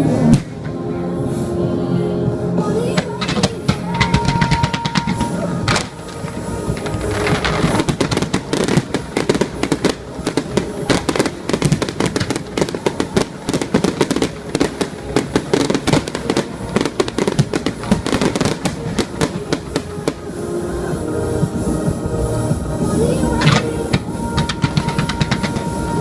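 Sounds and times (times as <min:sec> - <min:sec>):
fireworks crackling and banging: 0:00.0 - 0:01.5, 0:02.5 - 0:26.0.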